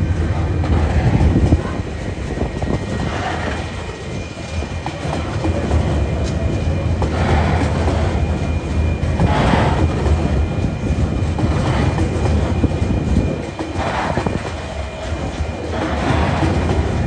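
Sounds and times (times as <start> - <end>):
low rumble: 0.0 - 17.0
train wagons rolling past: 0.0 - 17.0
wheels clattering: 0.0 - 17.0.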